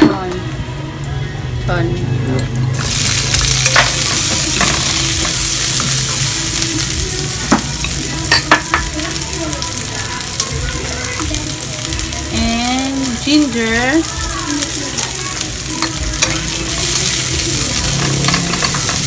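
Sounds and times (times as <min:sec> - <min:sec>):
onions sizzling in hot oil: 0:00.1 - 0:19.0.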